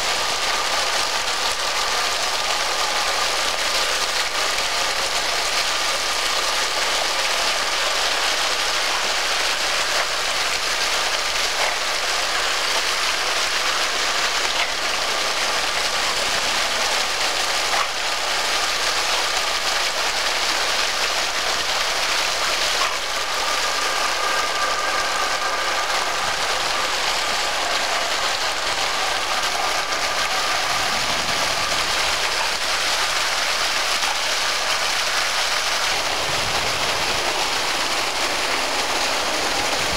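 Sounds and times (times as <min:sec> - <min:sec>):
fire hydrant water gushing: 0:00.0 - 0:39.9.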